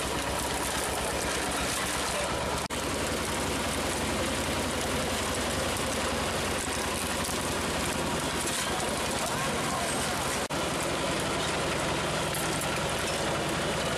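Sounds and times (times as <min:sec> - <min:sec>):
road roller engine chugging: 0:00.0 - 0:13.9.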